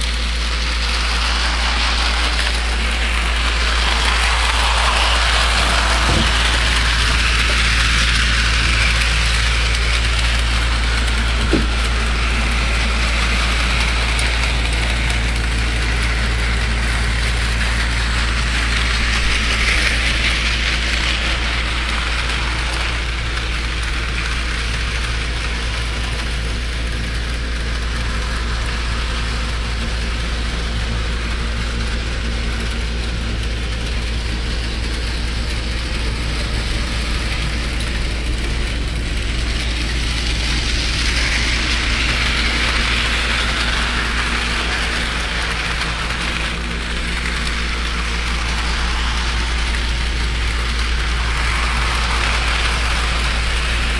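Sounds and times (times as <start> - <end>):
low hum: 0.0 - 53.9
model train whirring on track: 0.0 - 53.9.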